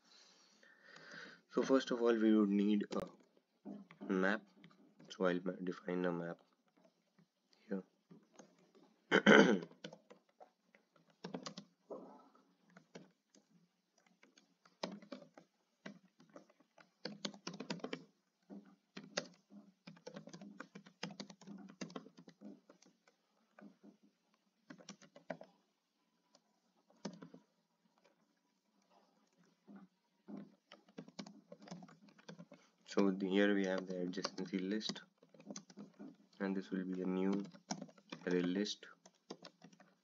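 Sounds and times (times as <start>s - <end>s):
computer keyboard typing: 0.9s - 40.0s.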